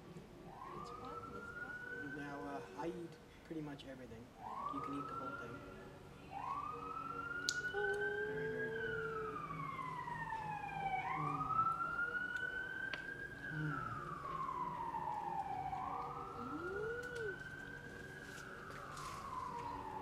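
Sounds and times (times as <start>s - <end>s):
emergency siren wailing: 0.0s - 3.1s, 4.3s - 20.0s.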